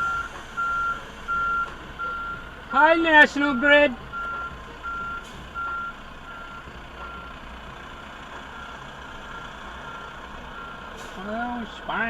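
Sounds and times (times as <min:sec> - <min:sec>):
truck reversing alarm beeping: 0:00.0 - 0:11.6.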